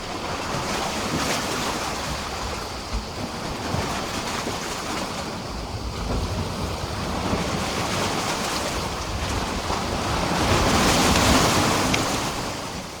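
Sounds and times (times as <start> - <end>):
sea waves washing against pier: 0.0 - 13.0.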